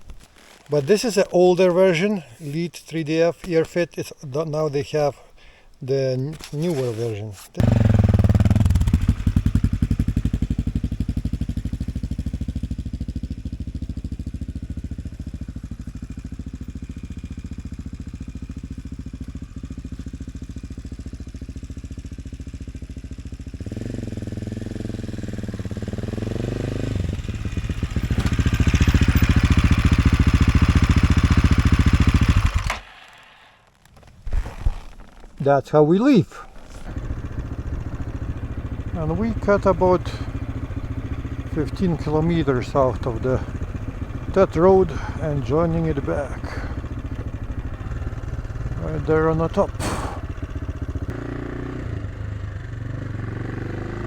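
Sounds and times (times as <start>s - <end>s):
motorcycle engine running and revving: 7.6s - 33.7s, 34.3s - 35.2s, 36.6s - 54.0s.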